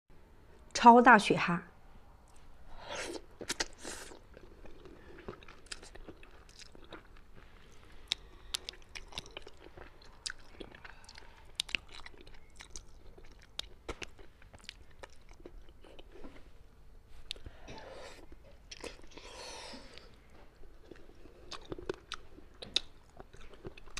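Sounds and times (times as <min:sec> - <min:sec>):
person chewing: 0:02.3 - 0:23.9.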